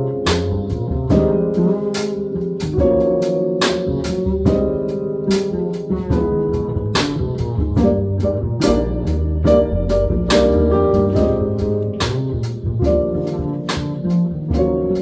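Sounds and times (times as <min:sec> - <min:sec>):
drum and cymbal strikes: 0:00.0 - 0:15.0.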